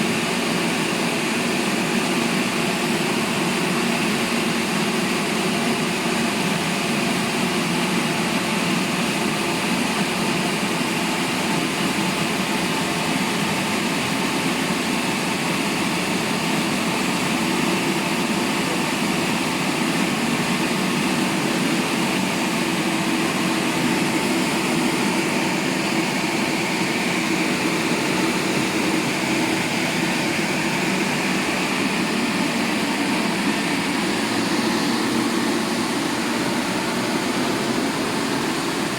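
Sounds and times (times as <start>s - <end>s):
car wash spray rushing: 0.0s - 38.9s.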